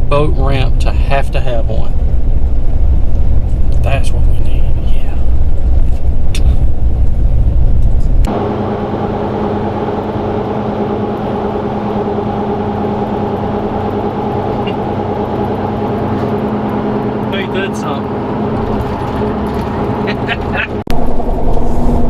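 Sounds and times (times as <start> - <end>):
steady drone with hum: 0.0 - 22.0
vehicle road noise rumble: 0.0 - 22.0.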